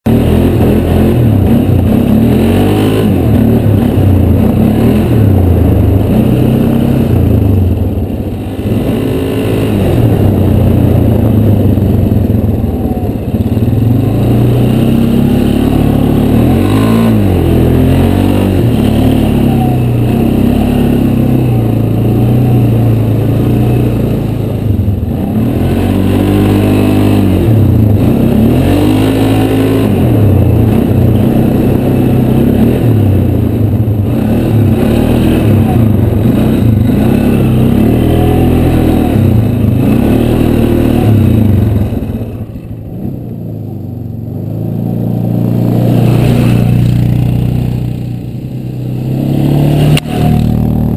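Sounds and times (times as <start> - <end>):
atv engine revving: 0.0 - 50.9.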